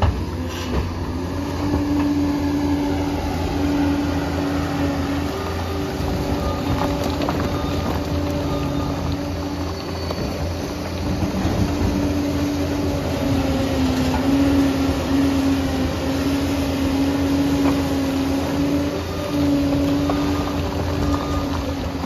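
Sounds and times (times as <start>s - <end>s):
dozer diesel engine rumbling: 0.0s - 22.0s
steady engine whine: 0.0s - 22.0s.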